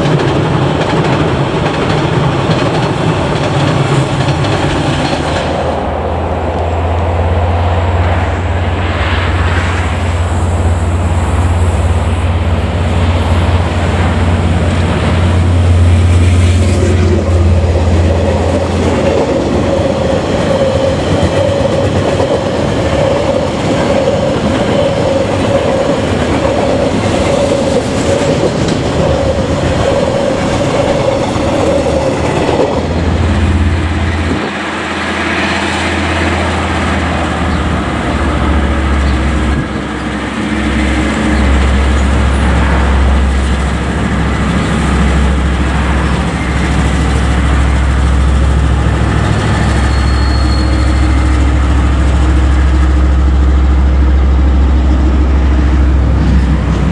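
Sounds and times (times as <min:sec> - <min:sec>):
train wheels clattering: 0:00.0 - 0:08.2, 0:09.0 - 0:56.9
diesel locomotive engine drone: 0:00.0 - 0:56.9.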